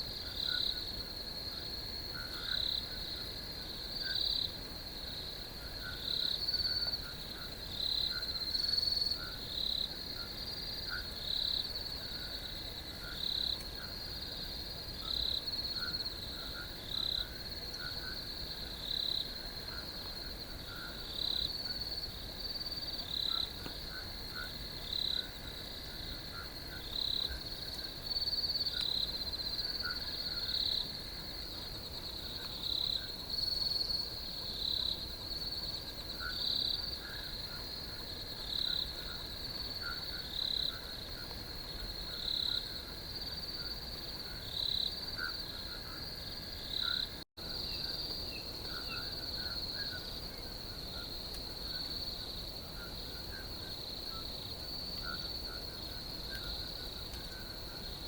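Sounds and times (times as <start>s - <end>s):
crickets trilling: 0.0s - 58.0s
louder cricket chirp: 0.0s - 58.0s.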